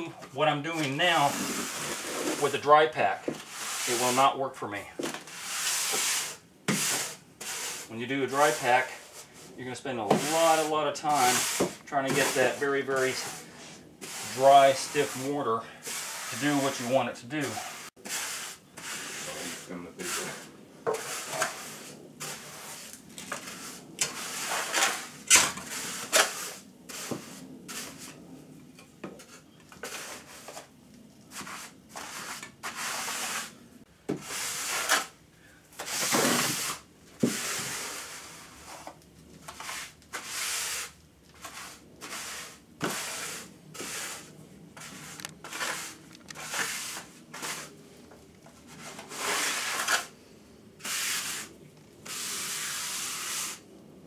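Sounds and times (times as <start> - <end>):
trowel scraping wet mortar: 0.0 - 4.4, 5.2 - 28.2, 29.2 - 30.7, 31.3 - 33.6, 34.2 - 35.2, 35.8 - 47.7, 48.6 - 50.1, 50.8 - 53.6.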